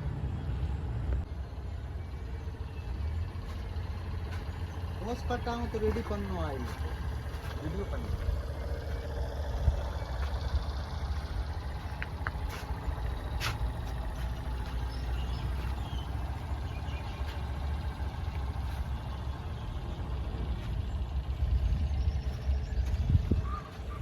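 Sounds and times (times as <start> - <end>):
heavy vehicle engine idling: 0.0 - 24.0.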